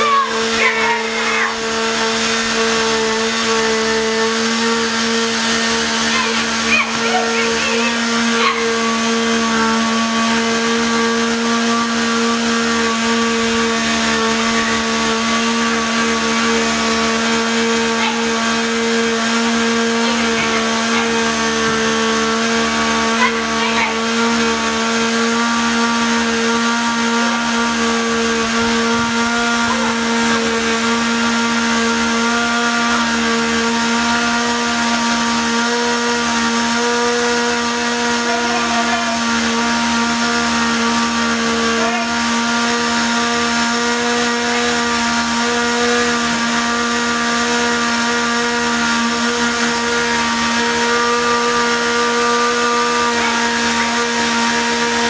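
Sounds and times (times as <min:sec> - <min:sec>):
small motor humming: 0:00.0 - 0:55.0.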